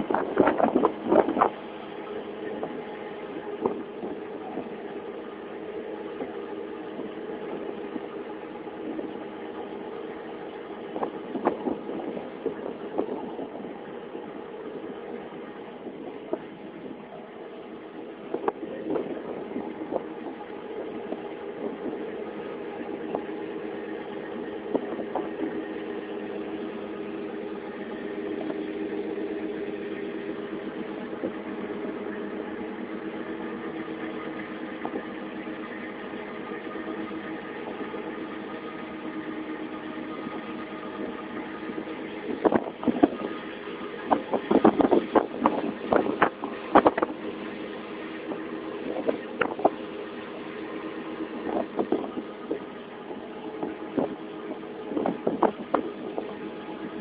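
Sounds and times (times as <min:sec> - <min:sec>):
ship engine drone: 0:00.0 - 0:57.0.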